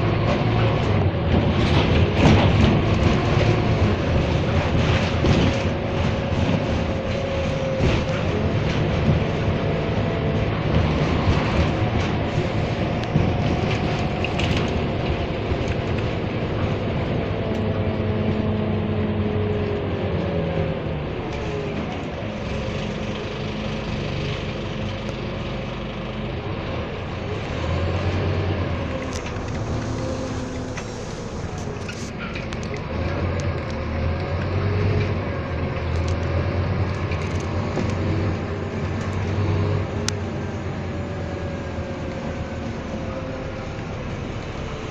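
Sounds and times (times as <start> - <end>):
bus engine drone with whine: 0.0 - 44.9.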